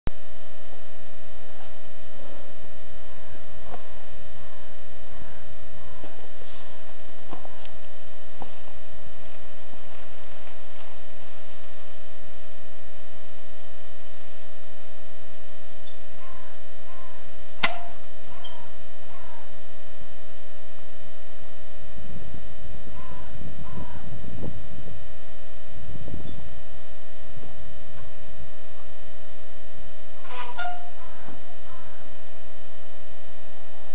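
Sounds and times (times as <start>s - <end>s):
steady electrical hum: 0.1s - 33.9s.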